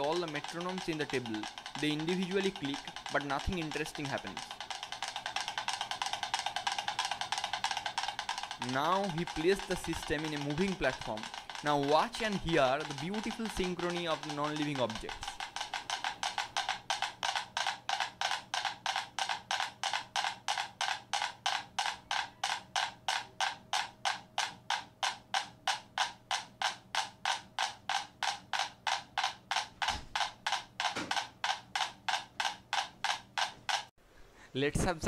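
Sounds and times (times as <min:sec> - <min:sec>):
metronomes ticking: 0:00.0 - 0:33.9.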